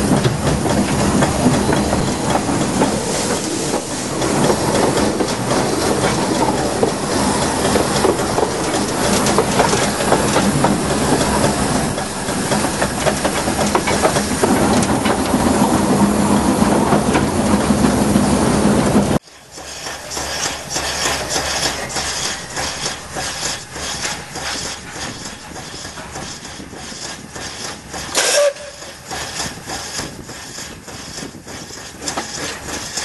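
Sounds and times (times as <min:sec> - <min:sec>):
locomotive rumble and hum: 0:00.0 - 0:33.0
wheels clattering over rail joints: 0:00.0 - 0:33.0.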